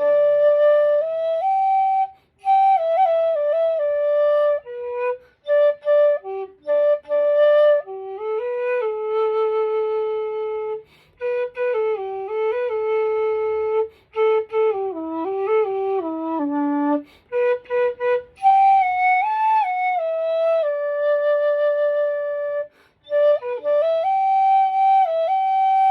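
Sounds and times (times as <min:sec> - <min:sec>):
bamboo flute melody: 0:00.0 - 0:25.9.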